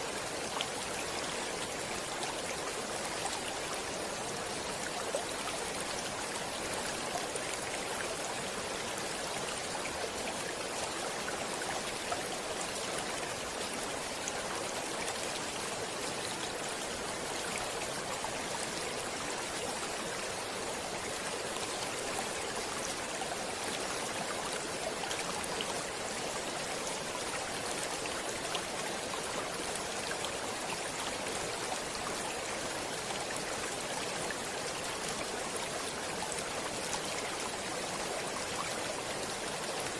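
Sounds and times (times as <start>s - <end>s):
stream water rushing and babbling: 0.0s - 39.9s.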